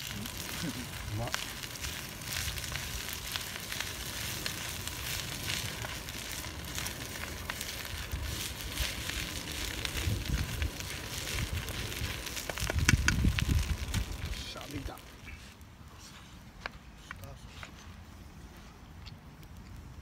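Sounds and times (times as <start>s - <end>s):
campfire crackling and popping: 0.0s - 20.0s
steady hiss: 0.0s - 20.0s.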